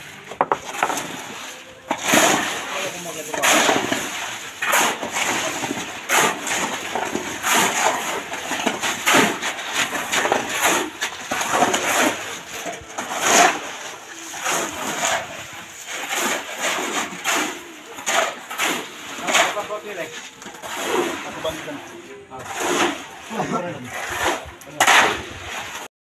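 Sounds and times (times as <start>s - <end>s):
shovels scraping gravel on concrete: 0.0s - 25.9s.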